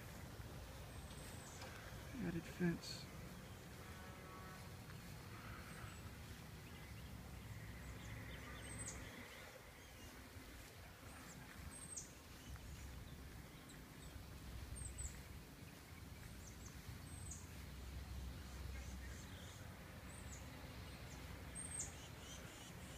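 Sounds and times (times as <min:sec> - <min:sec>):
bird chirping: 0:00.0 - 0:22.9.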